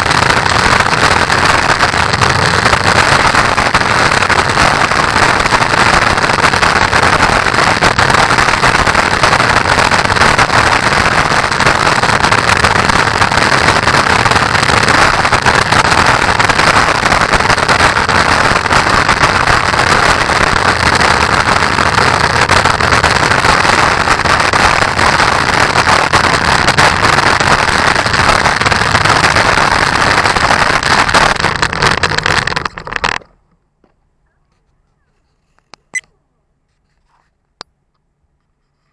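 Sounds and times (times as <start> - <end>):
wheels rolling over rough pavement: 0.0 - 34.0.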